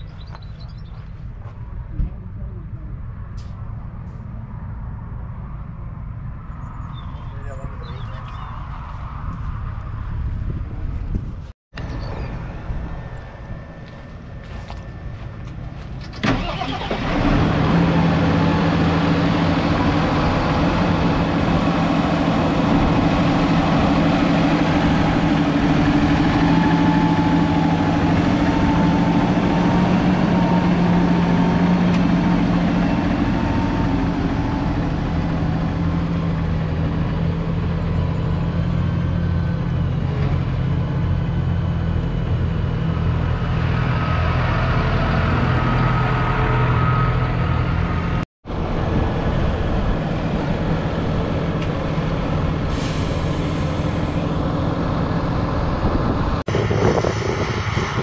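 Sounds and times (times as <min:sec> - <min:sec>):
diesel engine starting and running: 0:09.4 - 0:58.0.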